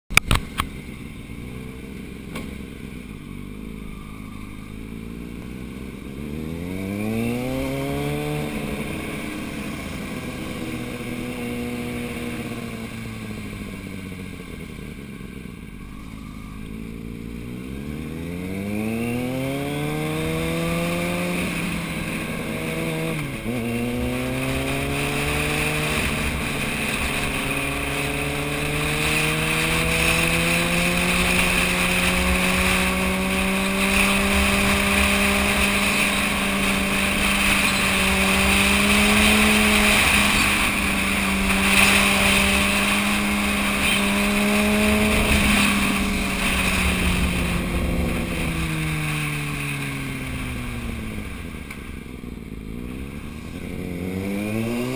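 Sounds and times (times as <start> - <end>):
motorcycle engine accelerating: 0.1 - 54.9.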